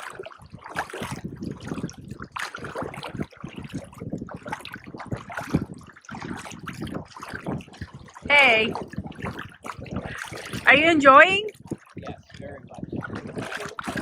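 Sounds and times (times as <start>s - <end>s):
sea water sloshing and splashing: 0.0s - 14.0s.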